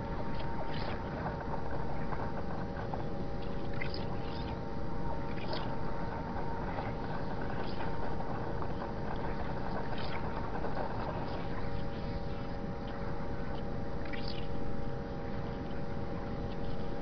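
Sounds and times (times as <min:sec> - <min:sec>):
held hum tones: 0:00.0 - 0:17.0
rumble of ground noise: 0:00.0 - 0:17.0.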